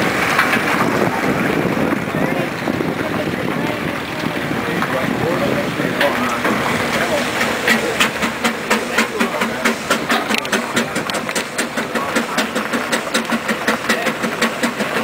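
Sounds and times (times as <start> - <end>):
steam locomotive exhaust chuffing: 0.0 - 15.0.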